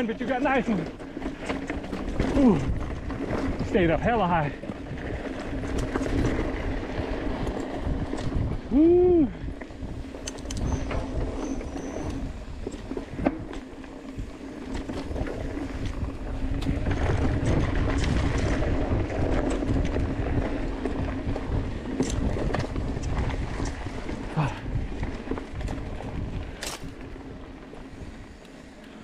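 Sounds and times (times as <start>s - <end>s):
wind noise: 0.0s - 28.7s
tyres rumbling over dirt: 0.0s - 29.0s.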